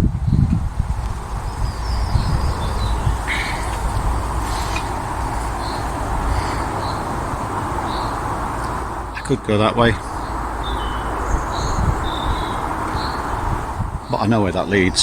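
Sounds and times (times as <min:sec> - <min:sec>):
steady low rumble: 0:00.0 - 0:15.0
birds chirping: 0:00.2 - 0:15.0.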